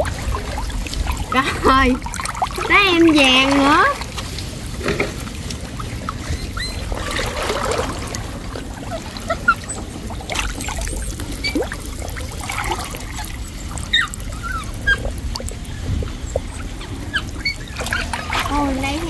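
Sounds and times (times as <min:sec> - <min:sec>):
short water plinks: 0:00.0 - 0:19.0
water sloshing and trickling: 0:00.0 - 0:19.0.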